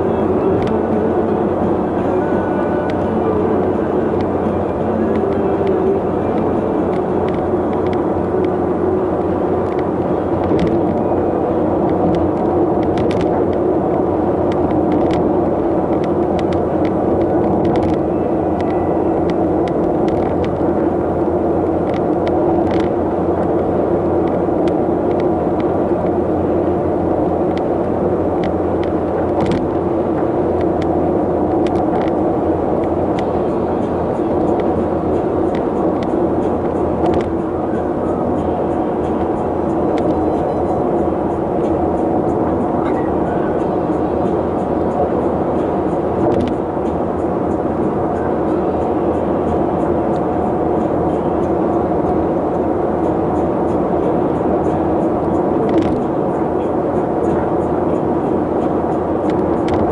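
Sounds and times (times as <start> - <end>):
vehicle driving on road: 0.0 - 59.9.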